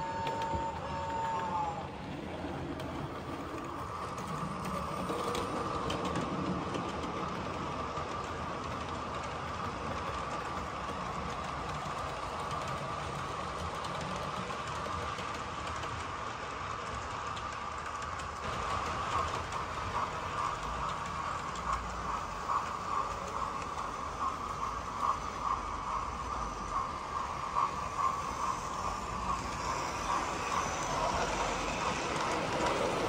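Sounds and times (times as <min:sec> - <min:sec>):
model train wheels whirring: 0:00.0 - 0:33.0.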